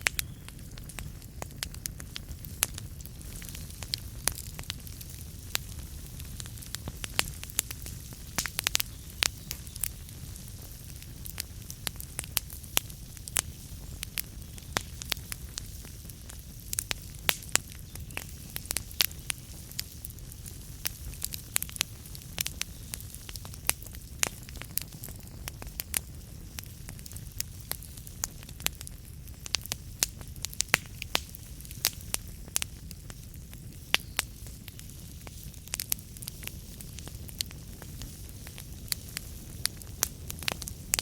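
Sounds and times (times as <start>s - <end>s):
logs crackling and popping: 0.0s - 41.0s
low rumble of flames: 0.0s - 41.0s.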